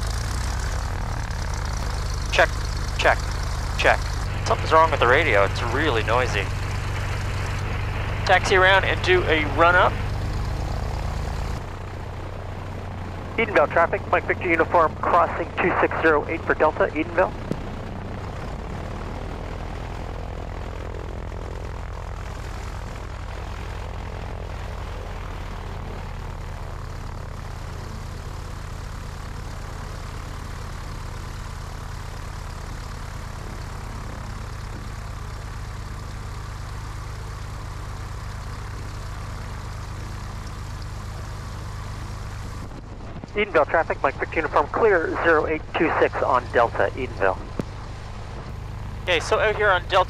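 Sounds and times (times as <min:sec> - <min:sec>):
small plane engine droning: 0:00.0 - 0:50.0.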